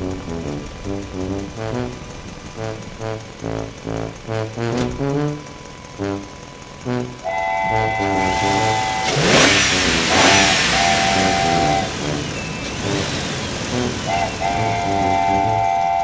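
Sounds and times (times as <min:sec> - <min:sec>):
cartoon car accelerating: 0:00.0 - 0:16.0
gliding tones: 0:00.0 - 0:16.0.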